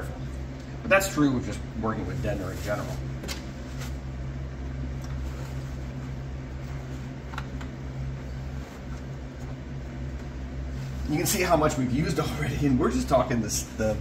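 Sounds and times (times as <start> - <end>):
shop fan humming: 0.0 - 14.0.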